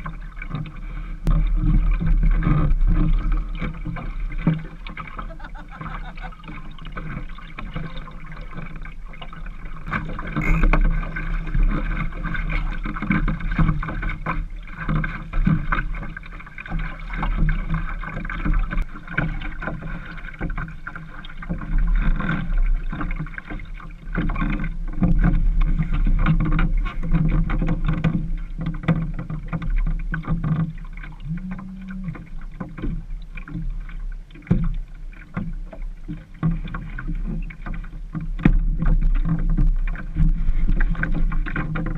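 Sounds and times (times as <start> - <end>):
boat knocks and clatters: 0.0 - 41.9
water and wind around hull: 0.0 - 41.9.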